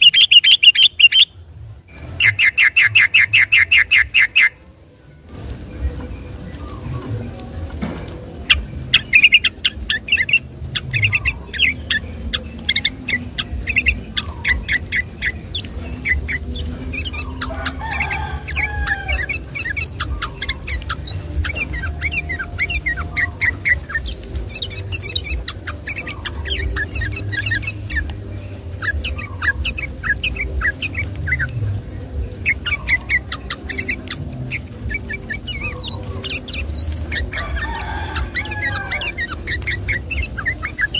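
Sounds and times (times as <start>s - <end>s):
steady low rumble: 0.0s - 2.4s, 4.0s - 40.9s
bulbul chirping song: 0.0s - 40.9s.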